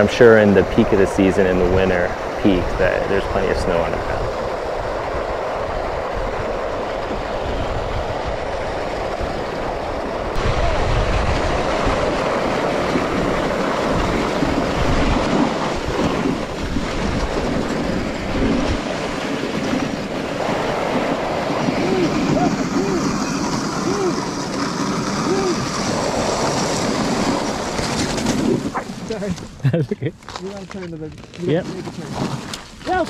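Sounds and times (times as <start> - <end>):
sled runners scraping and rattling: 0.0 - 33.0
wind rumbling on microphone: 0.0 - 33.0.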